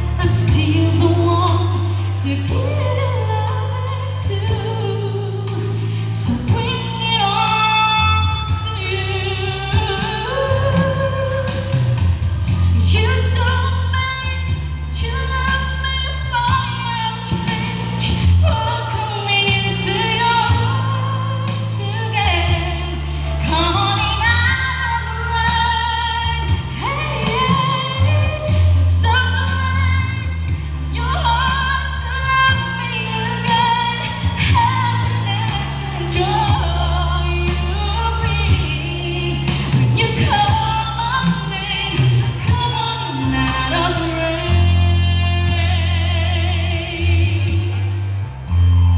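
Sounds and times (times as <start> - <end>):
backing track with bass line: 0.0 - 48.9
woman singing pop song: 0.0 - 48.9.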